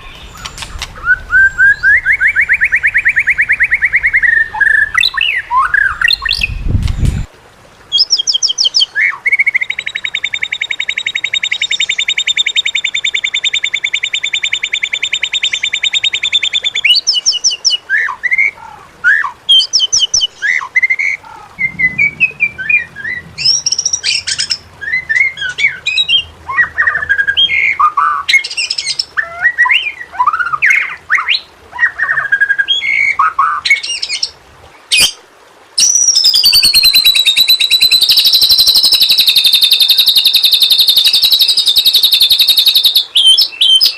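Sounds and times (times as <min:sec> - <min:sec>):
bird singing trills and whistles: 0:00.0 - 0:06.7, 0:08.0 - 0:34.3, 0:35.8 - 0:43.9.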